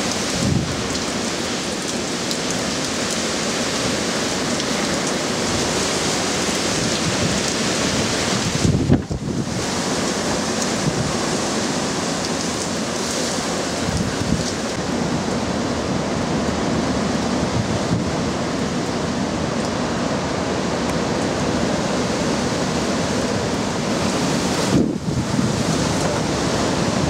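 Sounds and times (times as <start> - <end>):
heavy rain pouring: 0.0 - 27.0
strong wind: 0.0 - 27.0.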